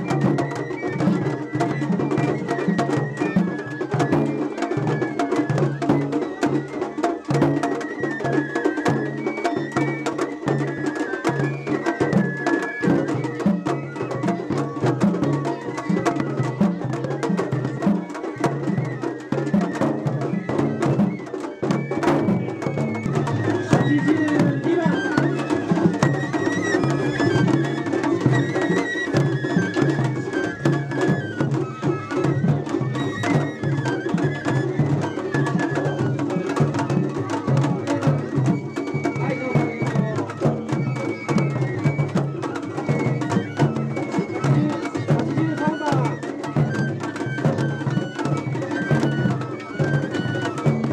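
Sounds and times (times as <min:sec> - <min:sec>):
high festival melody: 0:00.0 - 0:50.9
large drum beaten with sticks: 0:00.0 - 0:50.9.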